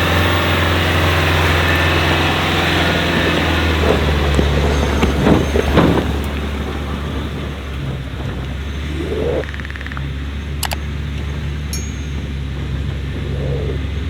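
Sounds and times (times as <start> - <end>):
engine running and revving: 0.0 - 14.0.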